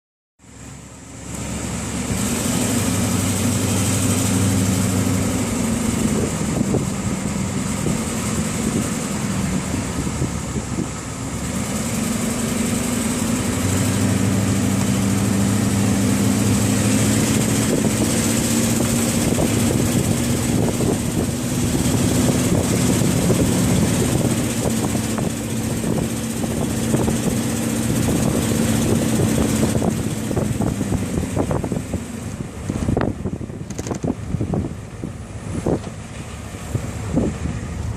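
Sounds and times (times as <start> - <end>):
diesel engine running: 0.4 - 37.9.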